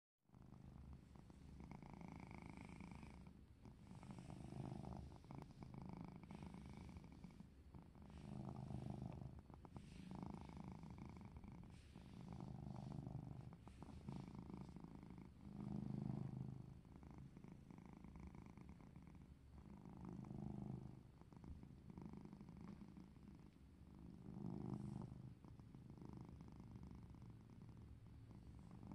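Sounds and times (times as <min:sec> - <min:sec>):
cat purring: 0:00.3 - 0:28.9.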